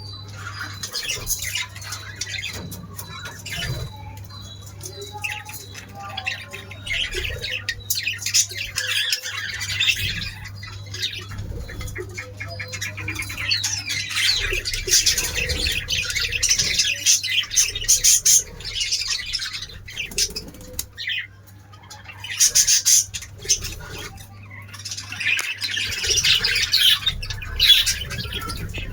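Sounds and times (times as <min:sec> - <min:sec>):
small birds chirping and squawking: 0:00.0 - 0:28.9
steady low hum: 0:00.0 - 0:28.9.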